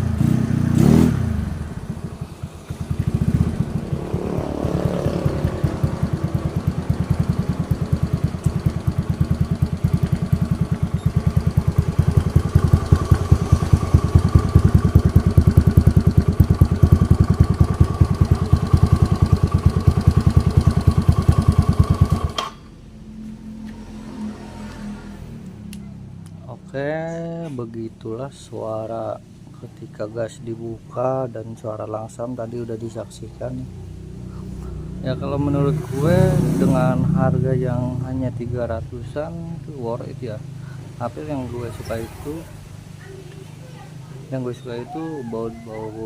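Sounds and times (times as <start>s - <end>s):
scooter engine idling: 0.0s - 22.7s, 31.8s - 46.0s.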